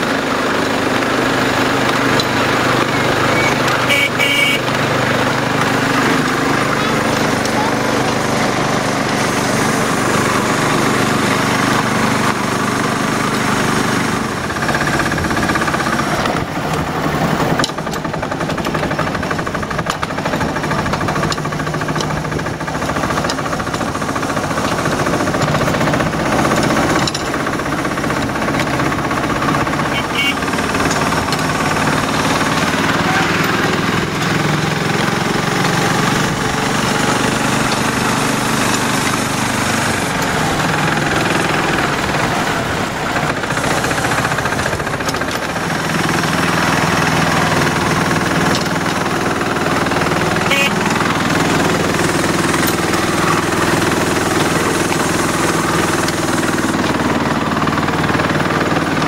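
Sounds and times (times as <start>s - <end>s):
small engine running: 0.0s - 59.0s
train cars rattling on track: 0.0s - 59.0s.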